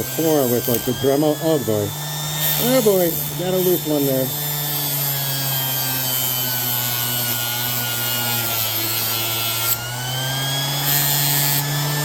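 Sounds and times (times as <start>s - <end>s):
sanding scratchy hiss on metal: 0.0s - 9.8s
orbital sander motor hum: 0.0s - 12.0s.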